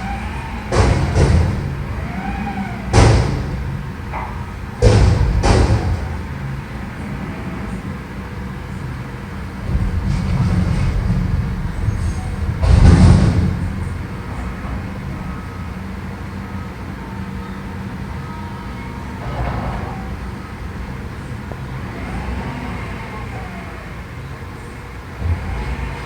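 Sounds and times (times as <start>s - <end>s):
truck diesel engine rumbling: 0.0s - 26.0s.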